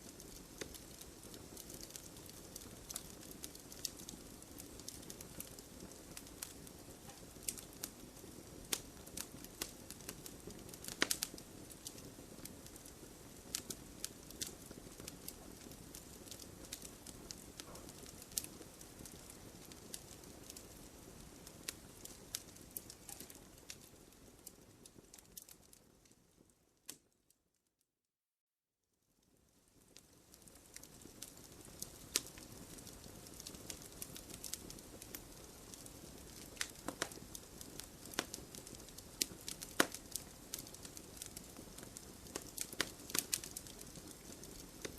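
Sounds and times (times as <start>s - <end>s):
burning wood popping: 0.0s - 25.8s, 29.9s - 44.9s
campfire crackling: 0.0s - 27.1s, 29.3s - 44.9s.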